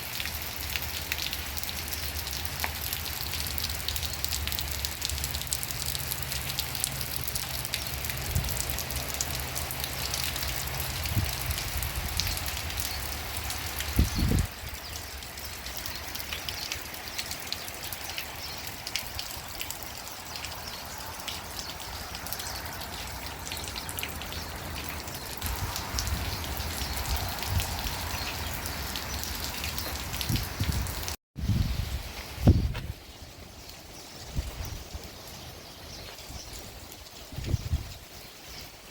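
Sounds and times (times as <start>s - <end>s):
raindrops ticking: 0.0s - 31.2s
rain falling: 0.0s - 38.9s.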